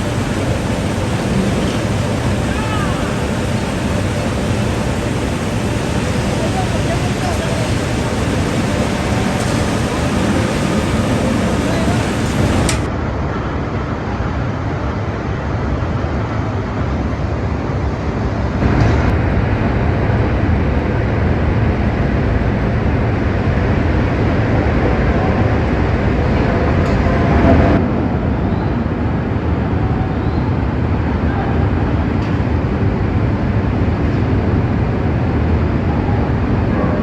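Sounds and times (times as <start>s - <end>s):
heavy factory machinery: 0.0s - 37.0s.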